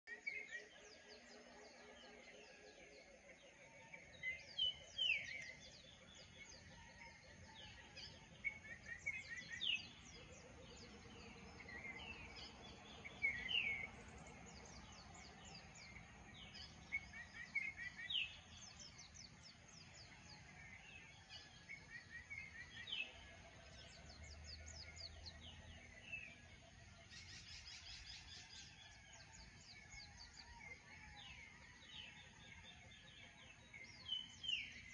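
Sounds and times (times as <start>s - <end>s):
birds chirping: 0.0s - 34.9s
faint outdoor background noise: 0.0s - 34.9s.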